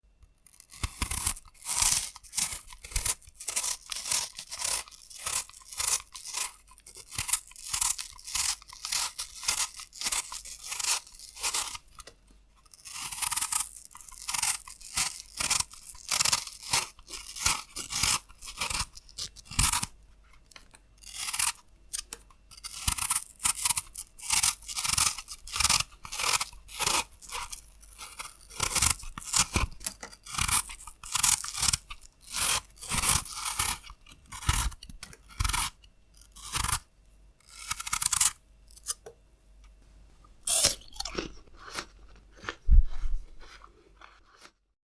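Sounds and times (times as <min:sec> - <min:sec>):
blade peeling apple skin: 0:00.2 - 0:39.2, 0:40.4 - 0:44.6.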